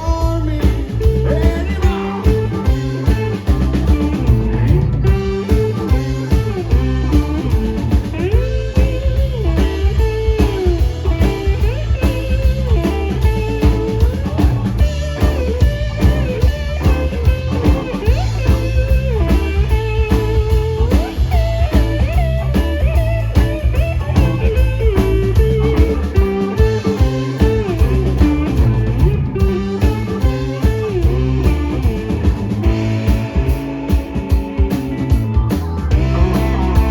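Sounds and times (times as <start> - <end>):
bass guitar: 0.0 - 36.9
drum kit: 0.0 - 36.9
lead guitar solo: 0.0 - 36.9.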